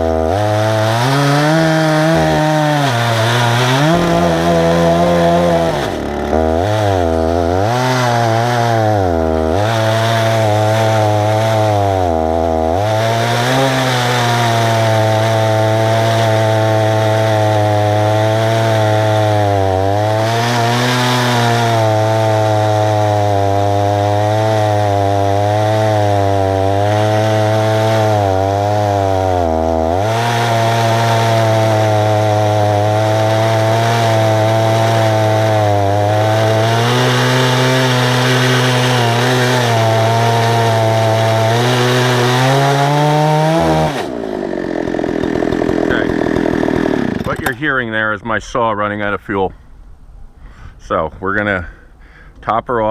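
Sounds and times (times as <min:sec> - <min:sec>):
chainsaw cutting wood at full throttle: 0:00.0 - 0:47.9.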